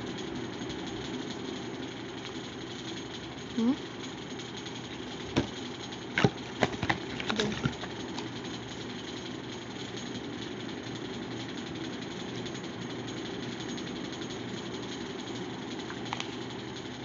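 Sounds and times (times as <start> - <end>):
machine humming with hiss: 0.0 - 17.0.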